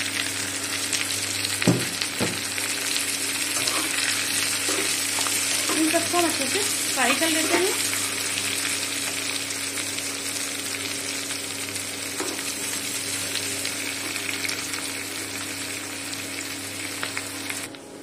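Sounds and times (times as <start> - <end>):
onions sizzling in oil: 0.0 - 17.7.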